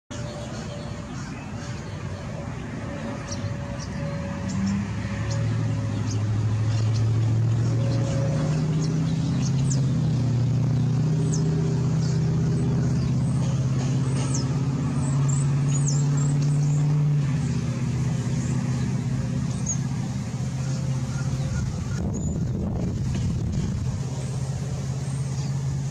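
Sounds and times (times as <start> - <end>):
vehicle engine running: 0.1 - 25.9.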